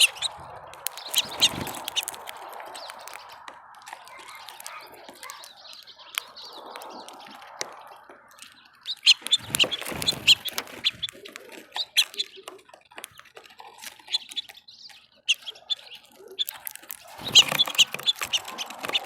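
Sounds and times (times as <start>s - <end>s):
sharp clicks: 0.0s - 19.0s
small birds chirping: 0.0s - 19.0s.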